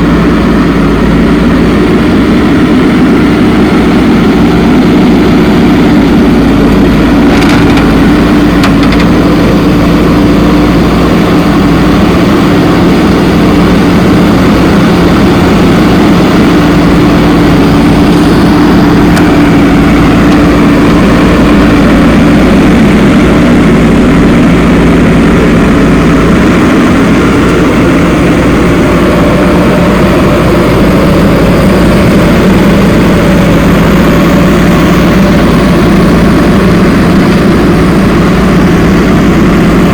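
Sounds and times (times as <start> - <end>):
heavy machinery diesel engine humming: 0.0 - 39.9.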